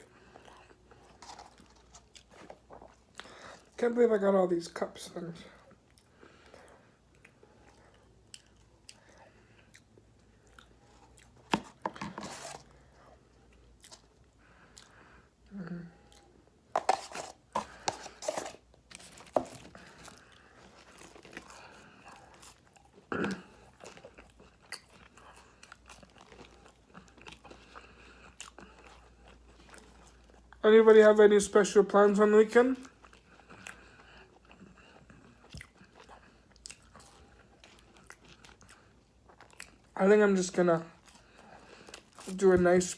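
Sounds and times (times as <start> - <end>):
person chewing and crunching food: 0.0 - 3.8, 5.5 - 30.6, 32.5 - 40.0, 40.6 - 42.9.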